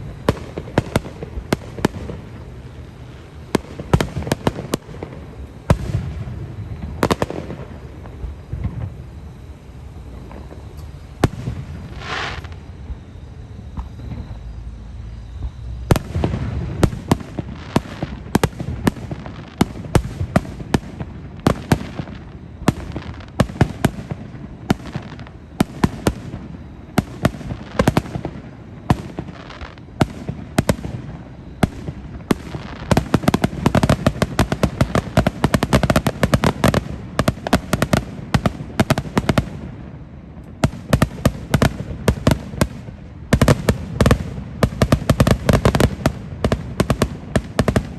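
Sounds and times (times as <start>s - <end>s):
fireworks bangs and crackles: 0.0s - 47.9s.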